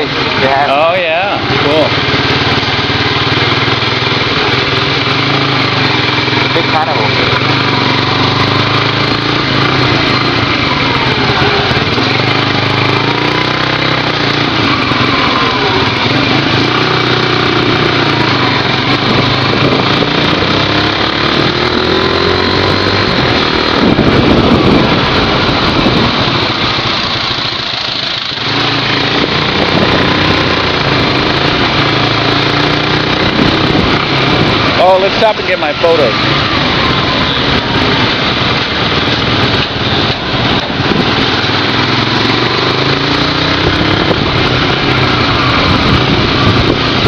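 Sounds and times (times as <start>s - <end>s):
loud rush: 0.0s - 47.0s
road and wind noise: 0.0s - 47.0s
small motorcycle engine running: 0.0s - 47.0s.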